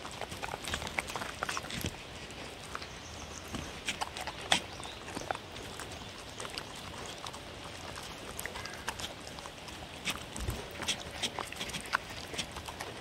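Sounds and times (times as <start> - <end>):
dogs licking and chewing food: 0.0 - 13.0.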